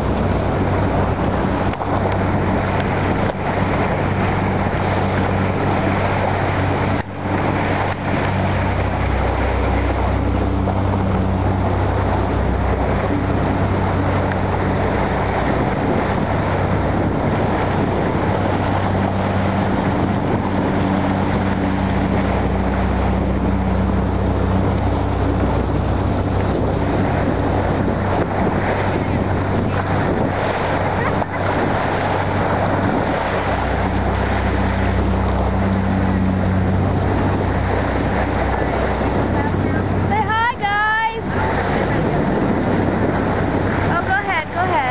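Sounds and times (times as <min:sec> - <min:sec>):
boat motor humming: 0:00.0 - 0:44.9
water rushing along hull: 0:00.0 - 0:44.9
wind buffeting microphone: 0:00.0 - 0:44.9.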